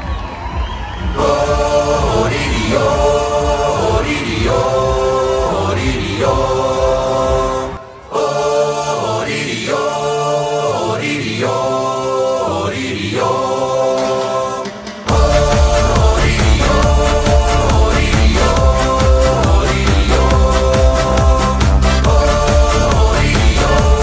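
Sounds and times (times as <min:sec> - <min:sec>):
male vocal group singing harmony: 0:01.0 - 0:24.0.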